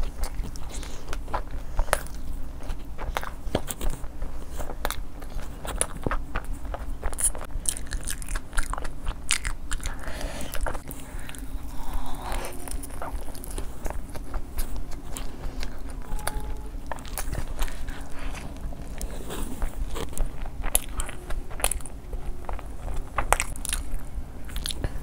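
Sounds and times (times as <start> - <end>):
crunchy food being chewed: 0.0 - 25.0.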